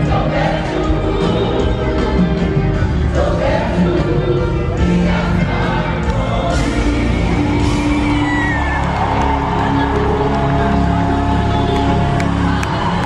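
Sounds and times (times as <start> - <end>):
choir singing gospel music: 0.0 - 13.0
crowd noise: 0.0 - 13.0.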